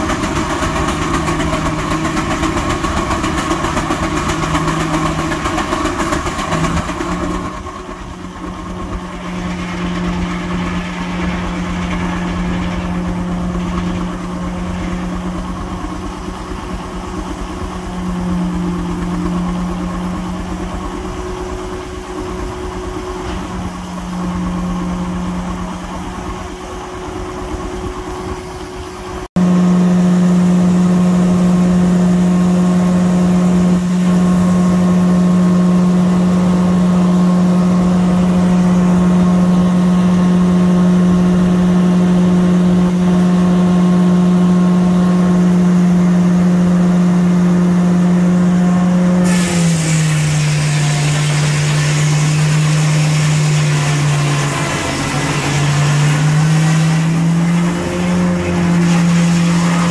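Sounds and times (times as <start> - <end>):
steam engine running sawmill: 0.0 - 59.9.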